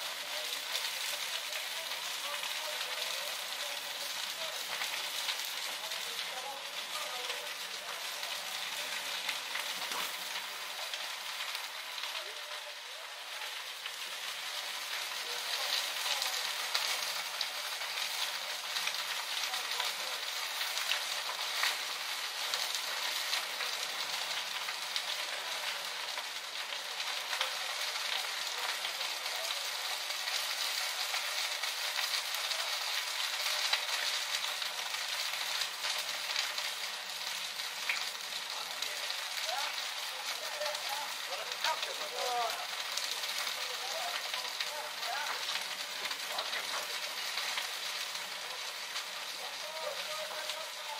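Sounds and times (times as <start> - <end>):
steady hiss: 0.0 - 50.9
wooden shed burning and crackling: 0.0 - 50.9.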